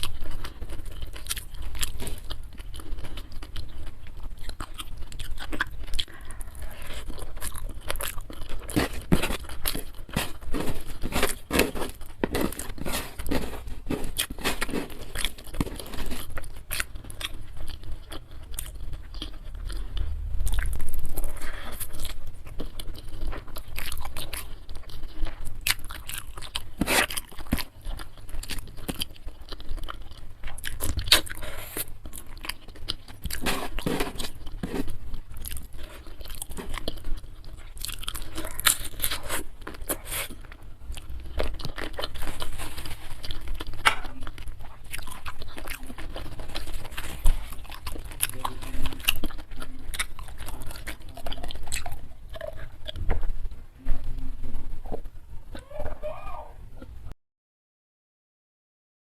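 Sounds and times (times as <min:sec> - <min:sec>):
chewing and biting crunches: 0:00.0 - 0:56.2.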